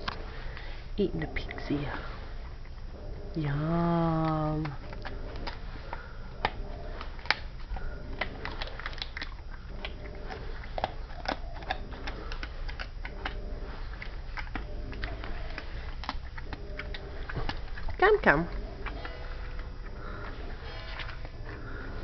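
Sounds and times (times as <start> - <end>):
dog chewing crunching: 0.0 - 22.0.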